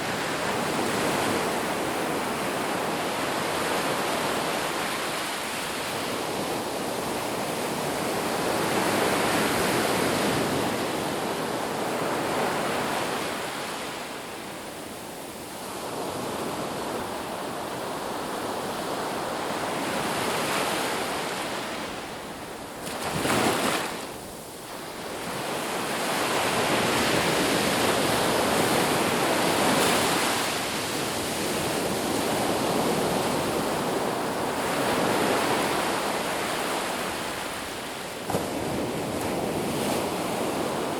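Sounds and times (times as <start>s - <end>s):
ocean surf washing on beach: 0.0s - 40.9s.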